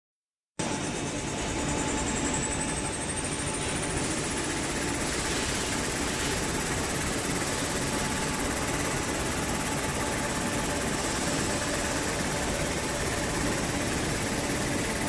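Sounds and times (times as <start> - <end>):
thin high machine whine: 0.6 - 15.0.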